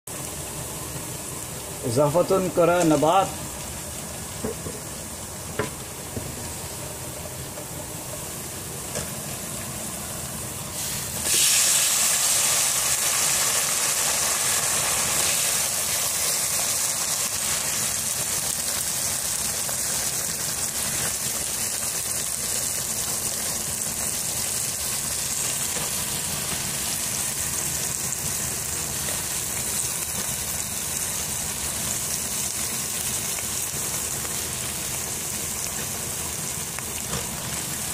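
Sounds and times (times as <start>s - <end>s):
frying sizzle in hot oil: 0.1s - 37.9s.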